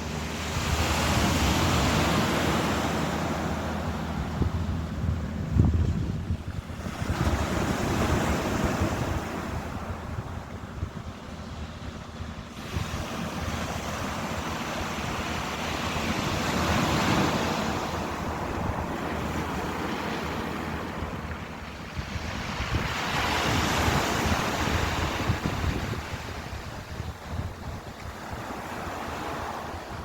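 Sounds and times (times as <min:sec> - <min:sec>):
ocean waves breaking: 0:00.0 - 0:30.0
wind rumble on microphone: 0:00.0 - 0:30.0.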